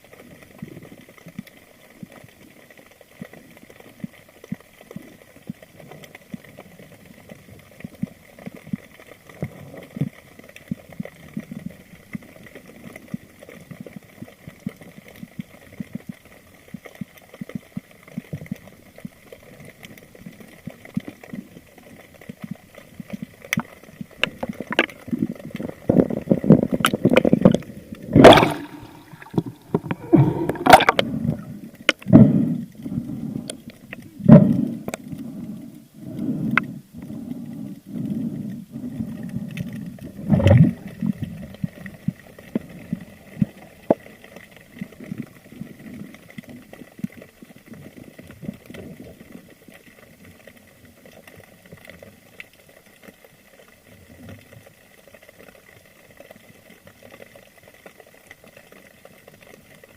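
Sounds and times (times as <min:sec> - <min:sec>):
underwater ambience: 0:00.0 - 0:59.9
water splashing and gurgling: 0:00.0 - 0:59.9.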